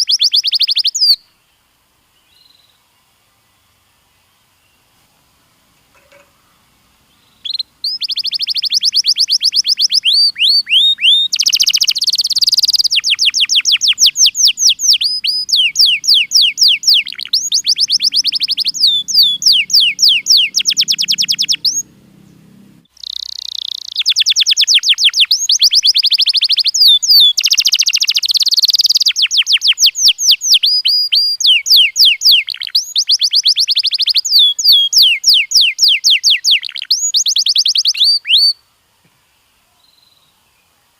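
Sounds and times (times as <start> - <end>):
canary singing trills: 0.0 - 1.3, 5.9 - 38.6.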